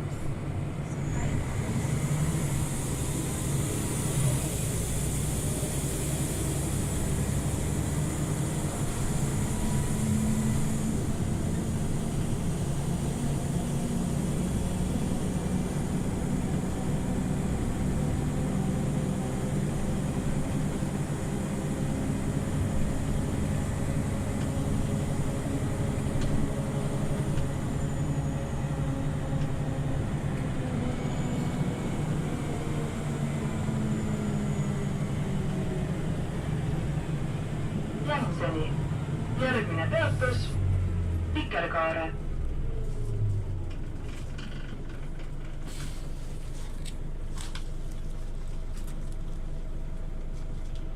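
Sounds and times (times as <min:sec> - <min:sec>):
bus engine running: 0:00.0 - 0:50.9
road and drivetrain noise: 0:00.0 - 0:50.9.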